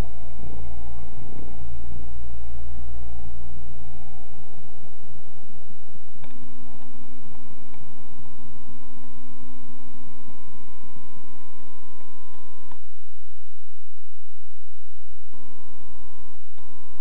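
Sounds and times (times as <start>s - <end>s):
hum of pitched tones: 0.0s - 17.0s
low rumble: 0.0s - 17.0s.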